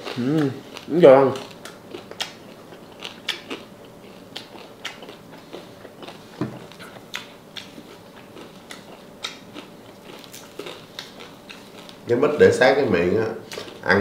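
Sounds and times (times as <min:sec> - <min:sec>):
crunching and chewing: 0:00.0 - 0:12.2, 0:13.4 - 0:14.0.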